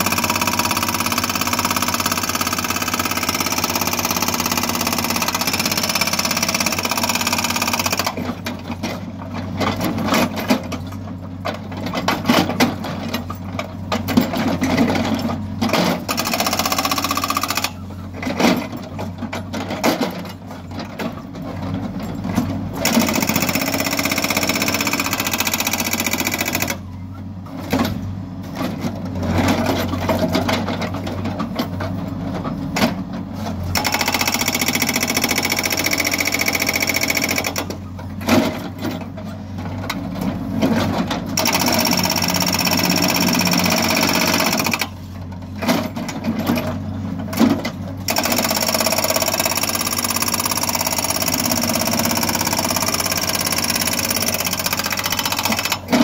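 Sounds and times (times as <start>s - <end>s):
hydraulic rock breaker hammering: 0.0s - 11.0s, 11.6s - 21.1s, 22.2s - 27.0s, 33.6s - 56.0s
diesel engine running: 0.0s - 56.0s.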